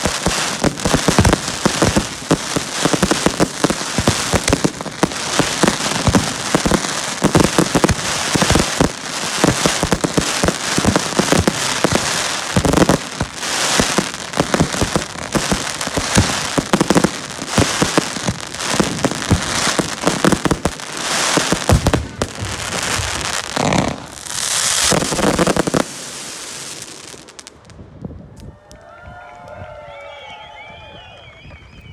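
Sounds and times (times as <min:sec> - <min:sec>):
fireworks bangs and crackling: 0:00.0 - 0:28.8.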